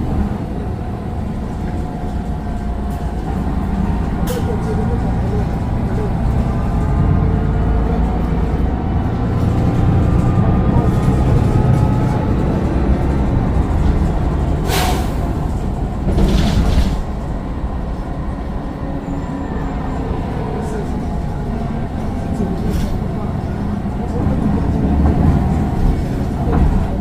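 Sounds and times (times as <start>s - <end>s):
bus diesel engine rumble: 0.0s - 27.0s.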